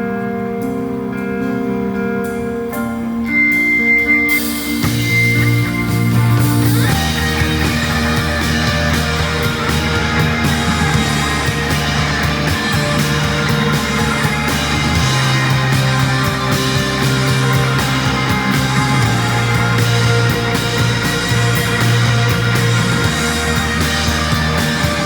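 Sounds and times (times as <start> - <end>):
bass guitar long notes: 0.0 - 25.0
rock band playing instrumental: 0.0 - 25.0
cymbal strokes: 3.3 - 25.0.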